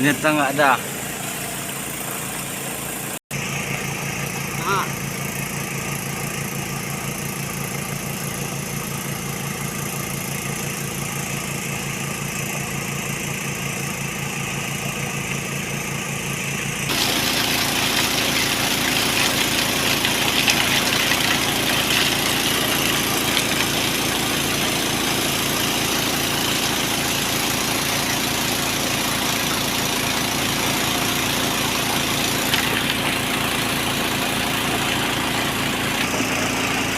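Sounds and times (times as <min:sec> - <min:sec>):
small petrol engine running: 0:00.0 - 0:36.9.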